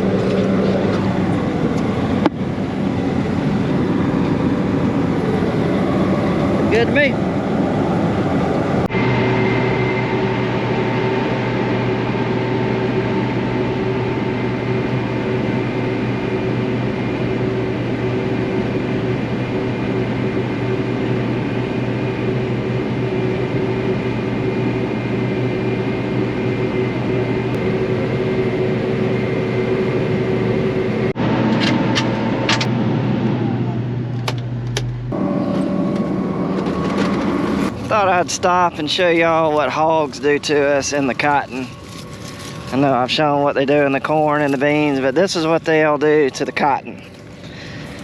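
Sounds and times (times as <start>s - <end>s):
cotton picker machinery drone: 0.0s - 48.0s
whining tones: 0.0s - 48.0s.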